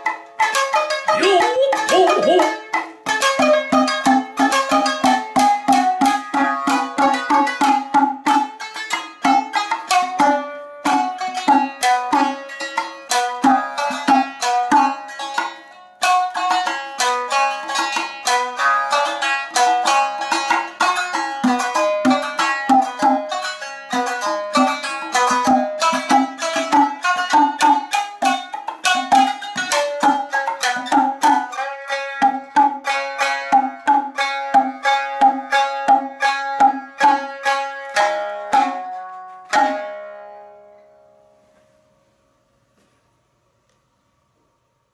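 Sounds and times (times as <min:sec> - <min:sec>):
shamisen plucked melody: 0:00.0 - 0:41.4.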